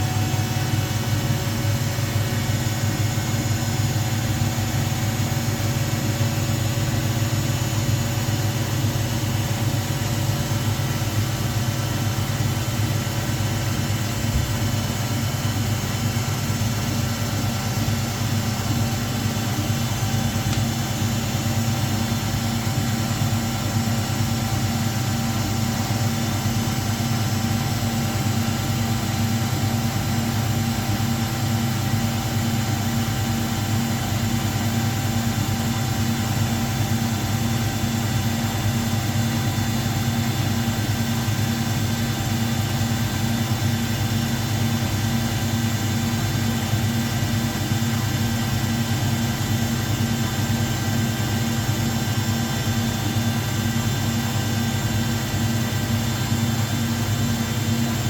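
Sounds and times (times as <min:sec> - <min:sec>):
washing machine drum spinning: 0:00.5 - 0:58.0.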